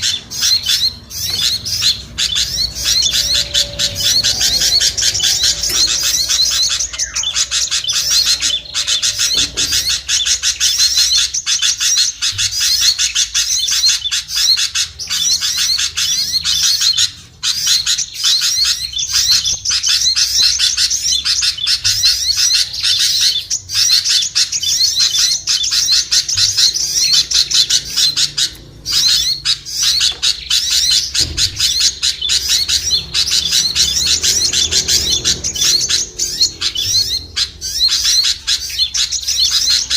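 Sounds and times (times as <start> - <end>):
small songbirds chattering: 0.0 - 39.9.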